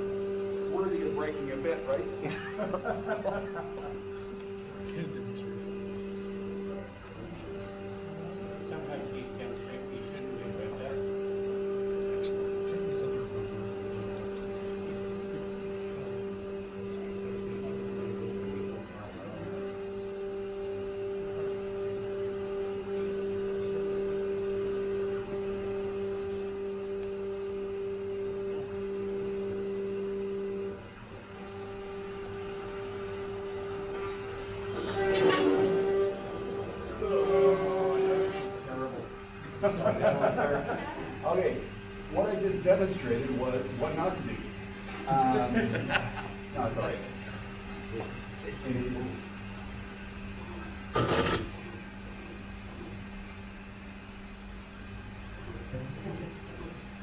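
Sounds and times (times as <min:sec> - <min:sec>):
milling spindle whine: 0:00.0 - 0:57.0.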